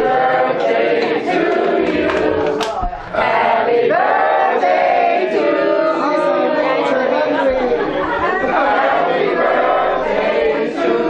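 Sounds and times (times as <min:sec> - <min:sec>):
group singing a celebration song: 0:00.0 - 0:11.0.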